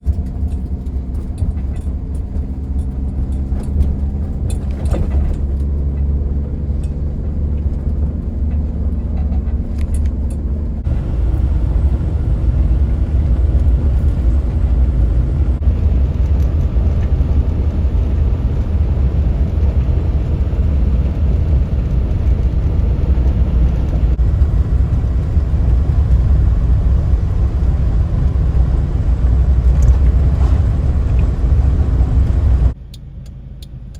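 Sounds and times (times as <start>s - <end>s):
car engine while driving: 0.0s - 33.9s
road noise: 0.0s - 33.9s.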